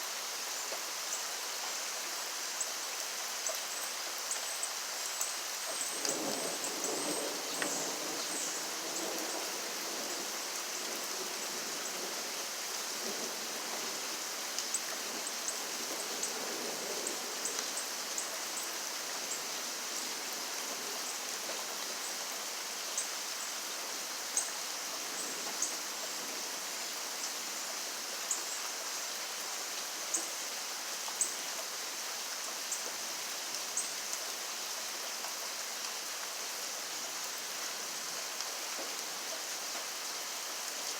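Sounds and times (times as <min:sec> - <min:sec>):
raindrops dripping close by: 0:00.0 - 0:40.9
steady rain hiss: 0:00.0 - 0:40.9.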